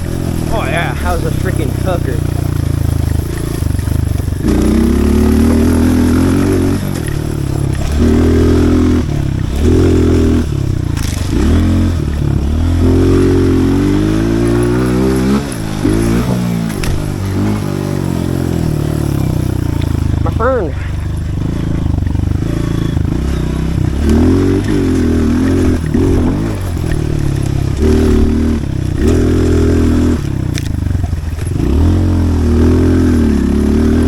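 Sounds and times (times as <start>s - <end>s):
pit bike engine revving: 0.0s - 34.0s.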